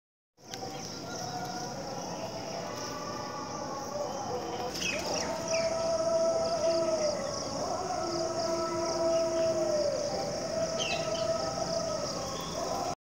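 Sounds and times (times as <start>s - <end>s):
birds chirping: 0.4s - 13.0s
high insect drone: 0.4s - 13.0s.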